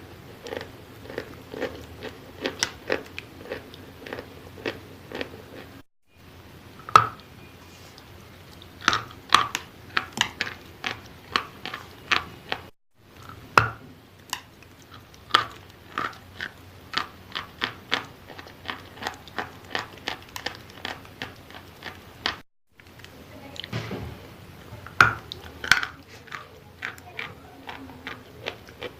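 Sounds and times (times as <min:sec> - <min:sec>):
chalk crunching while chewed: 0:00.3 - 0:05.8, 0:07.8 - 0:13.5, 0:14.2 - 0:23.2, 0:25.2 - 0:28.9.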